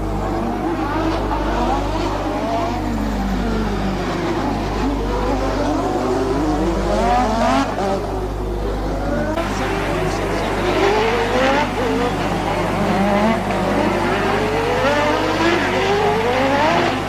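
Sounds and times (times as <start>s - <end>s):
race car engines revving: 0.0s - 17.0s
steady low hum: 0.0s - 17.0s.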